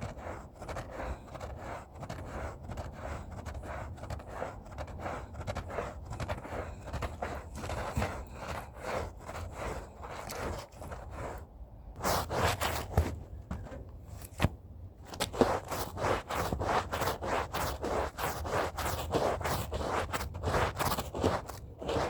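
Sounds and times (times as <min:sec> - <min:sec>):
brush scrubbing rug: 0:00.0 - 0:14.5, 0:15.1 - 0:22.0.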